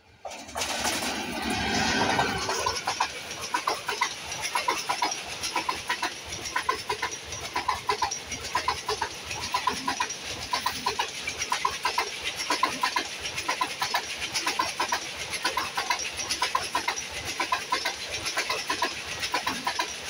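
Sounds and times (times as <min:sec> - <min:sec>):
rush of passing train: 0:00.0 - 0:20.0
train wheels clacking over rail joint: 0:00.2 - 0:20.0.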